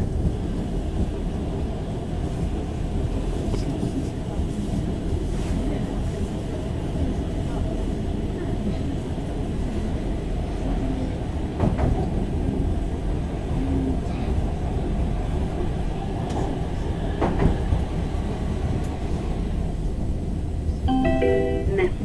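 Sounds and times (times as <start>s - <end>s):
train wheels rumbling on rail: 0.0s - 20.8s.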